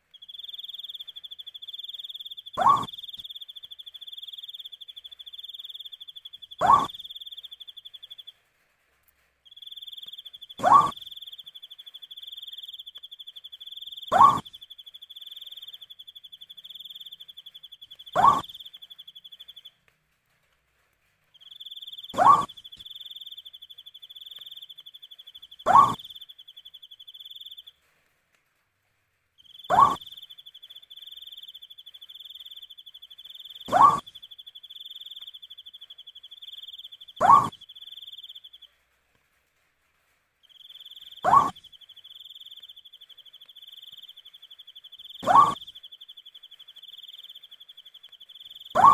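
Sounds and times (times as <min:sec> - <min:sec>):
pulsing cricket trill: 0:00.2 - 0:07.9, 0:09.6 - 0:18.8, 0:21.4 - 0:27.6, 0:29.4 - 0:38.5, 0:40.6 - 0:48.9
owl calling: 0:00.3 - 0:08.2, 0:09.6 - 0:19.6, 0:21.5 - 0:27.7, 0:29.5 - 0:38.6, 0:40.6 - 0:48.9.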